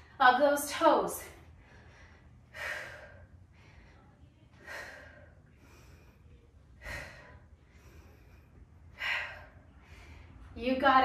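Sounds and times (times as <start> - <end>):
woman breathing hard: 1.2 - 10.6.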